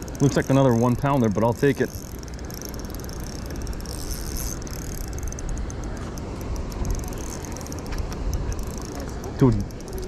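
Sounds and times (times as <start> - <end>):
fishing reel ticking: 0.0 - 10.0.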